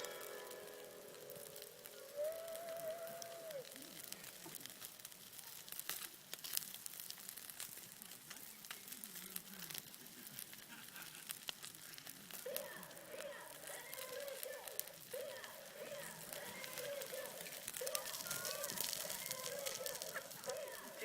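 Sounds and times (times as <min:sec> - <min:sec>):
campfire crackling: 0:00.0 - 0:21.0
faint hiss: 0:00.0 - 0:21.0.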